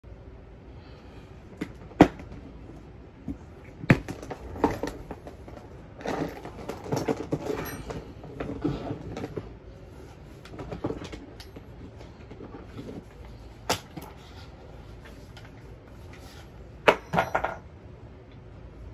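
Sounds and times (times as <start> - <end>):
rustling and clatter: 1.5 - 17.7.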